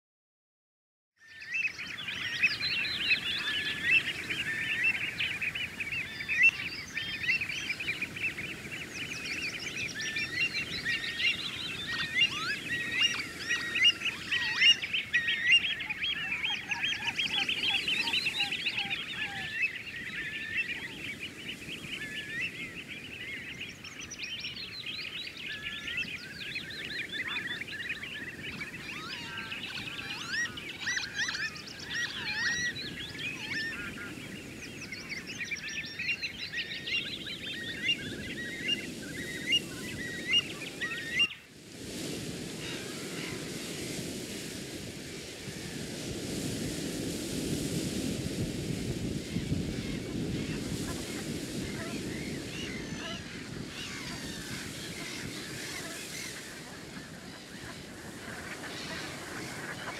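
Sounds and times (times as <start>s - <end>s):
flock of waterbirds calling: 1.2s - 59.9s.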